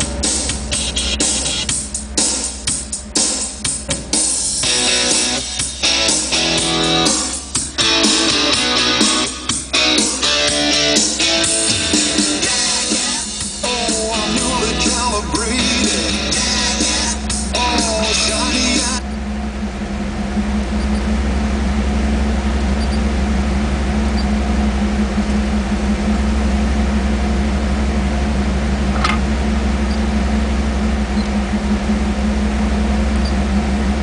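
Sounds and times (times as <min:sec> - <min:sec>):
car engine idling: 0:00.0 - 0:34.0
car stereo music: 0:00.0 - 0:34.0.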